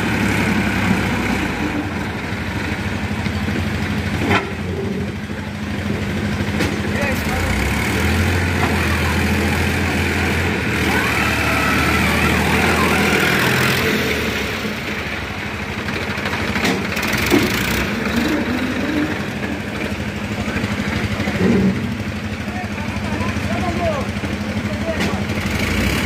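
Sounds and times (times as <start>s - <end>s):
tractor diesel engine droning: 0.0s - 26.0s.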